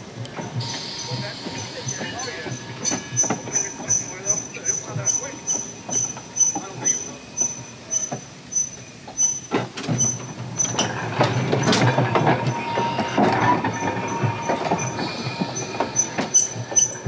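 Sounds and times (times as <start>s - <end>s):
streetcar wheels knocking on rails: 0.0s - 8.4s, 9.0s - 17.0s
streetcar rumble: 0.0s - 17.0s.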